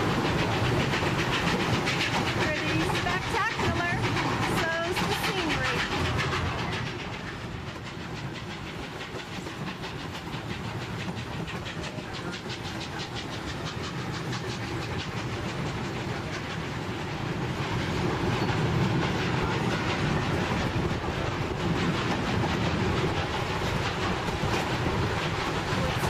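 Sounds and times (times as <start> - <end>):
train rumbling and clattering on rails: 0.0 - 26.0.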